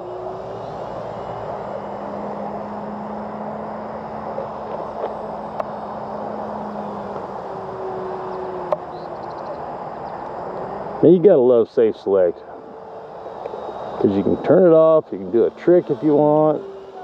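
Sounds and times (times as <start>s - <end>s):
model airplane motor humming: 0.0s - 17.0s
outdoor background noise: 0.0s - 17.0s.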